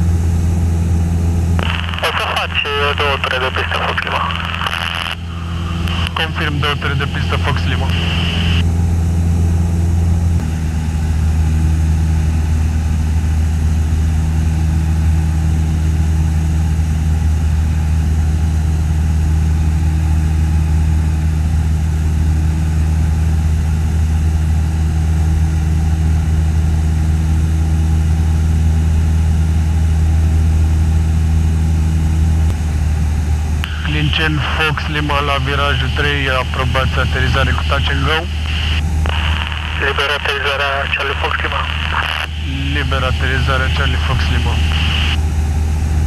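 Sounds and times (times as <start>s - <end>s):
aircraft engine droning: 0.0s - 46.0s.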